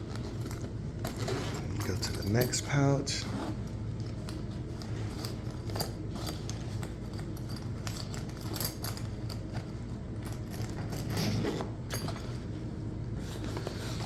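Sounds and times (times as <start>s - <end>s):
tool bag clicks and rattles: 0.0s - 2.9s, 4.0s - 12.6s.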